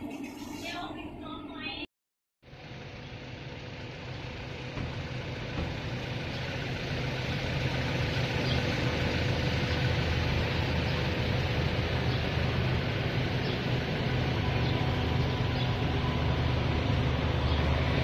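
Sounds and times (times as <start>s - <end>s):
engine humming with hiss: 2.4s - 18.0s.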